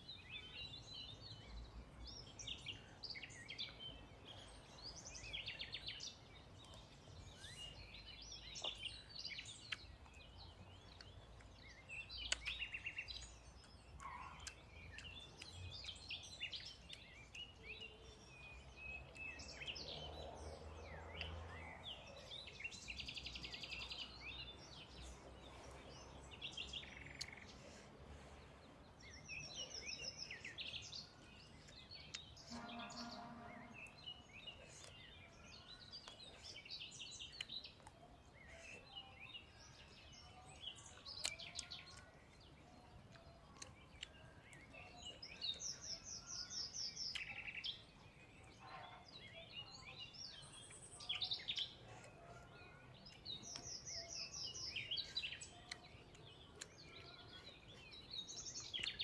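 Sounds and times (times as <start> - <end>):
birds chirping and singing: 0.0 - 59.0
outdoor background noise: 0.0 - 59.0.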